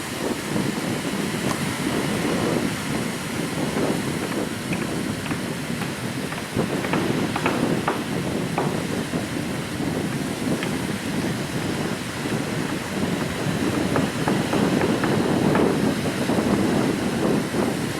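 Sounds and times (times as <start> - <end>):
sea waves on beach: 0.0 - 17.9
wind buffeting microphone: 0.0 - 17.9.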